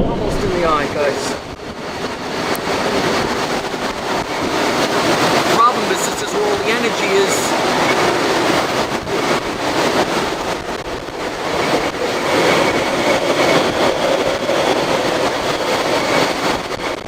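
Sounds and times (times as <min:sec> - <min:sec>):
driving rain: 0:00.0 - 0:17.0
strong wind rushing: 0:00.0 - 0:17.0.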